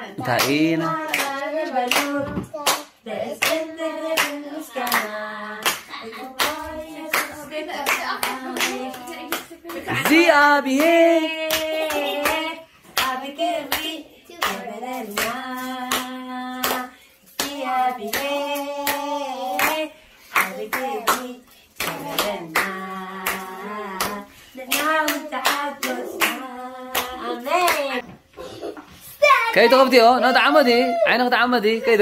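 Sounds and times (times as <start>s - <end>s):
girl singing: 0.0s - 28.6s
hands clapping: 0.3s - 19.0s, 19.6s - 28.0s.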